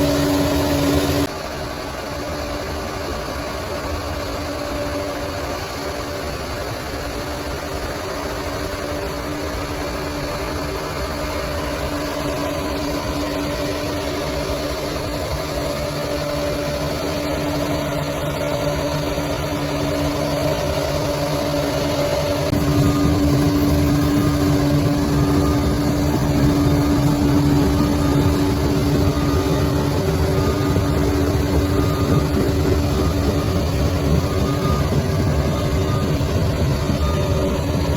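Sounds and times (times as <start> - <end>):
bulldozer diesel engine running: 0.0 - 37.9.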